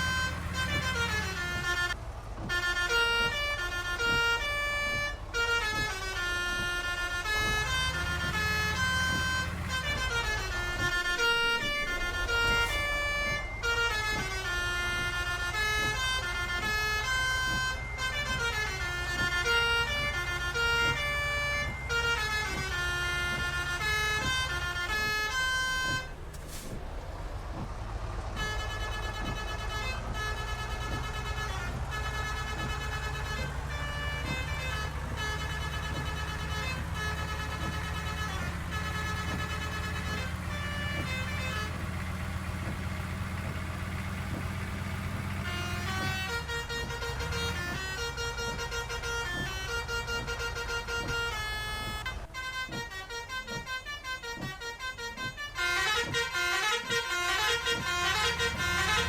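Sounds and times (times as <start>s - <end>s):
bus engine running low: 0.0s - 59.0s
musical bus horn playing a tune: 0.0s - 59.0s.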